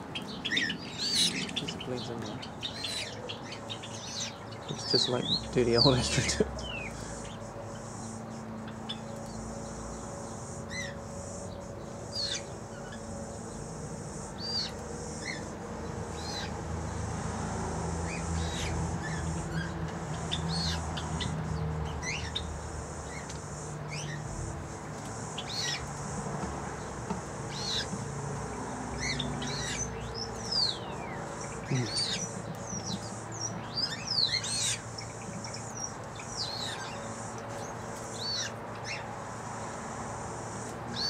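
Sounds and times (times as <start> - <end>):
small birds chirping and whistling: 0.0 - 16.6, 18.0 - 26.1, 27.4 - 28.0, 28.9 - 39.1.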